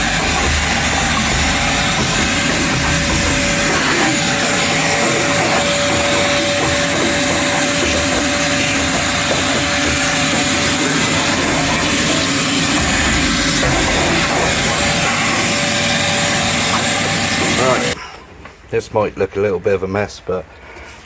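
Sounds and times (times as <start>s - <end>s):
angle grinder cutting sheet steel: 0.0s - 18.0s.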